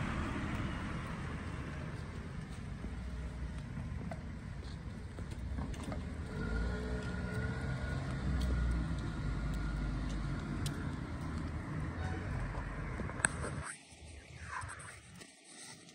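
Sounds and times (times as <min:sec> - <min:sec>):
car engine and tyre noise: 0:00.0 - 0:15.9.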